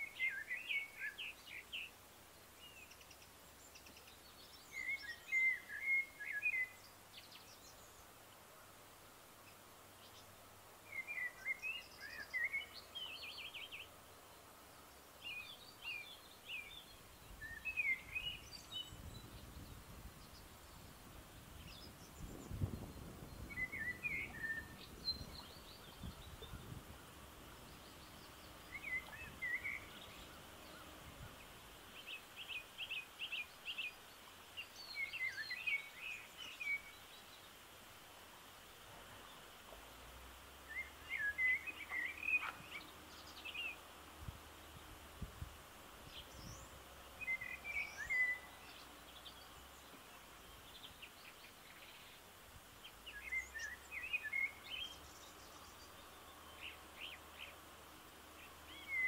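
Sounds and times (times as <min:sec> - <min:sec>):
faint outdoor hiss: 0:00.0 - 0:59.0
songbirds singing: 0:00.0 - 0:59.0.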